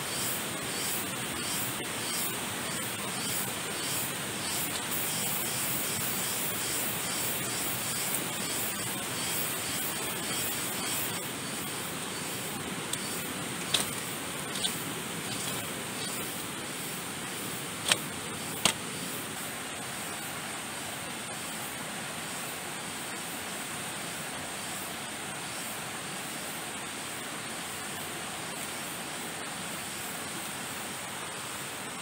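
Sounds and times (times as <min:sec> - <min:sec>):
river rushing: 0:00.1 - 0:32.0.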